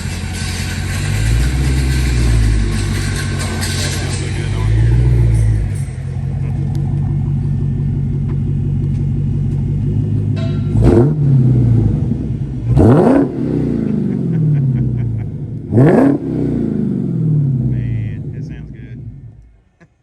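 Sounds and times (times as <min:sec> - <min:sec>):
car engine idling and revving: 0:00.0 - 0:19.8.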